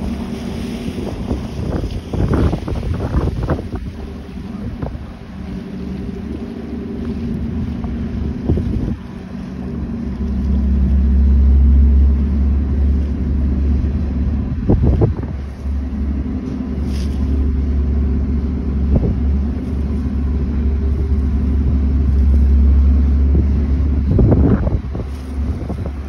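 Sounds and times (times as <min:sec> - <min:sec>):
diesel engines droning: 0:00.0 - 0:26.0
wind buffeting microphone: 0:00.0 - 0:26.0.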